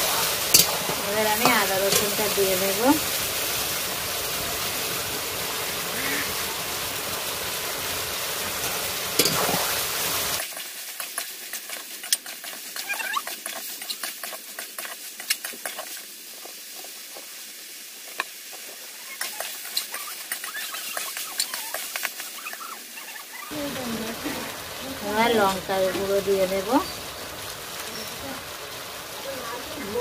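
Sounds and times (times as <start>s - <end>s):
chicken sizzling in a wok: 0.0s - 30.0s.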